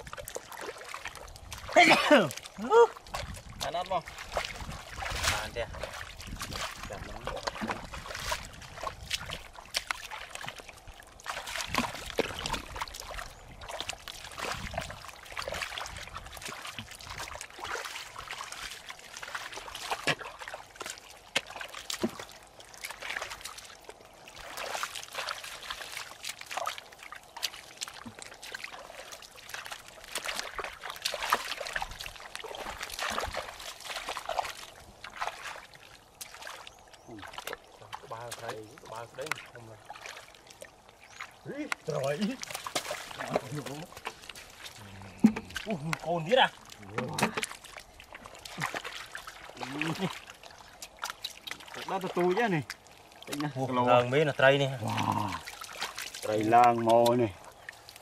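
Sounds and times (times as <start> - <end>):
water splashing: 0.0 - 58.0
water trickling: 0.0 - 58.0
wet mud squelching: 0.0 - 58.0.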